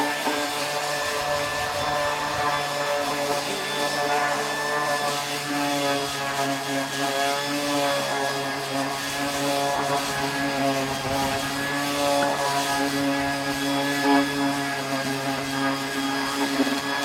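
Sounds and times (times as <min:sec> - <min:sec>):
electric power sander running: 0:00.0 - 0:17.0
rasp of sanding: 0:00.0 - 0:17.0.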